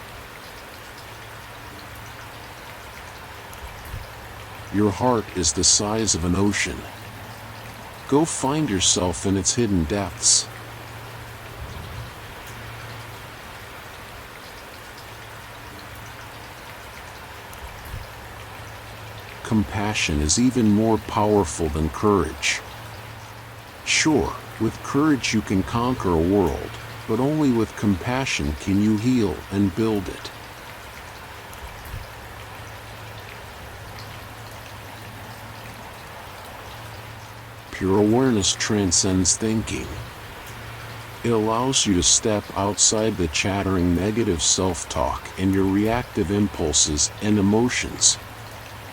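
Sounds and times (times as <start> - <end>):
raindrop ticks: 0.0 - 48.9
steady rain falling: 0.0 - 48.9.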